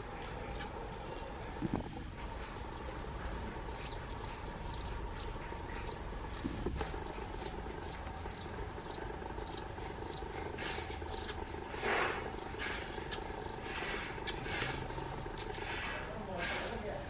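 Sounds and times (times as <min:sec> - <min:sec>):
harsh bird calls: 0:00.0 - 0:17.0
sparrow chirping: 0:00.0 - 0:17.0.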